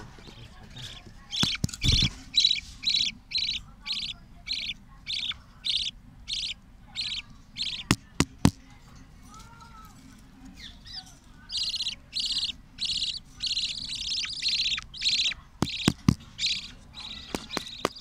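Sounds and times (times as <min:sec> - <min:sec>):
chicks begging with buzzy chirps: 0:00.2 - 0:08.5, 0:10.4 - 0:18.0.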